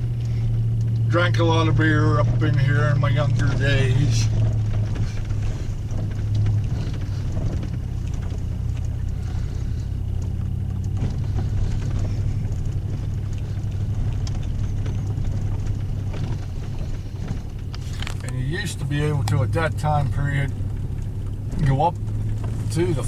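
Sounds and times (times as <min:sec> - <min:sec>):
vehicle engine and road rumble: 0:00.0 - 0:23.0
light knocks and rattles: 0:02.2 - 0:23.0.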